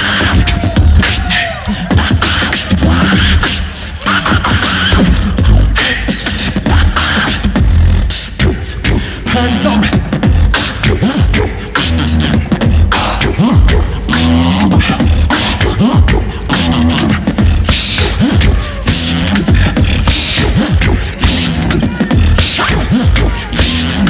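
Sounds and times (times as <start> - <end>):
beatboxed swooping bass: 0.0 - 24.0
beatboxing drum sounds: 0.0 - 24.0
short pitched vocal phrases: 0.0 - 24.0.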